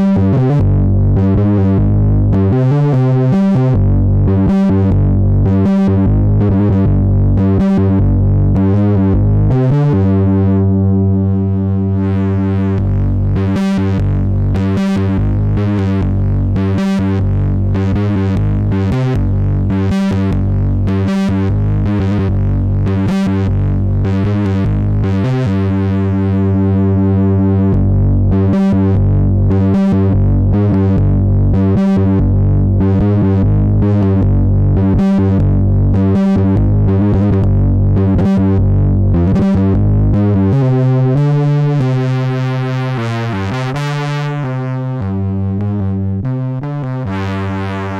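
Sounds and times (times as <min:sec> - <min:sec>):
distorted buzzy synthesizer note: 0:00.0 - 0:47.9.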